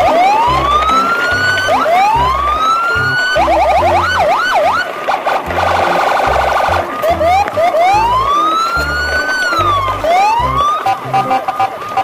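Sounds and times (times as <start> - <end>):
music with bass beat: 0.0 - 4.7, 5.4 - 11.7
electronic siren: 0.0 - 12.0.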